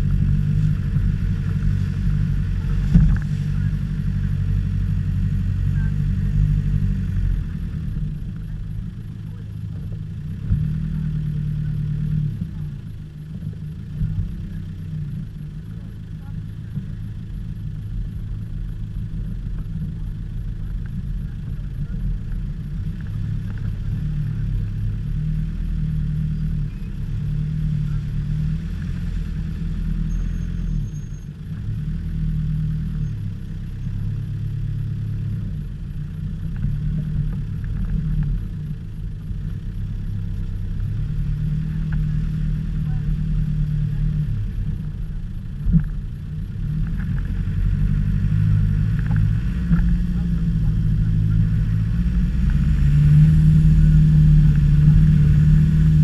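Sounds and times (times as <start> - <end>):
car engine at low revs: 0.0 - 56.0.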